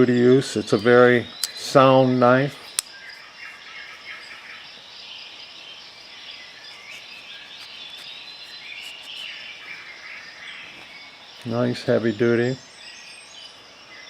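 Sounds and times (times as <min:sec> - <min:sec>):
birds chirping faintly: 0:00.0 - 0:14.0
outdoor background hiss: 0:00.0 - 0:14.0.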